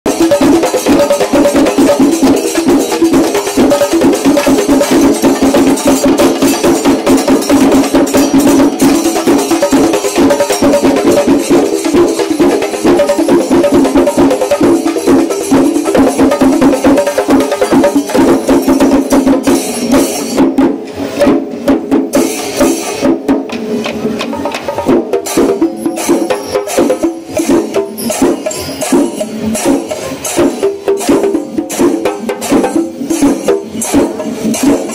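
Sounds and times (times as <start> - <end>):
rapid drumming with sticks: 0.0 - 34.9
jingling hand cymbals: 0.1 - 20.4, 24.4 - 34.9.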